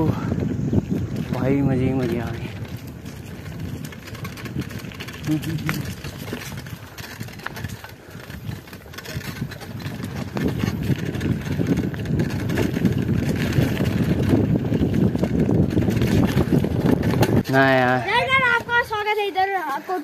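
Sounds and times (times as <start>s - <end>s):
bike tyres rolling on dirt: 0.0s - 20.0s
wind buffeting the microphone: 0.0s - 20.0s.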